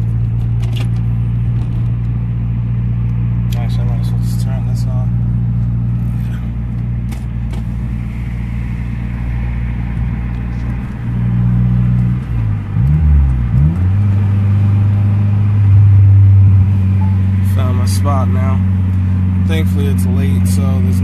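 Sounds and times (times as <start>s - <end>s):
car engine heard from inside cabin: 0.0s - 21.0s.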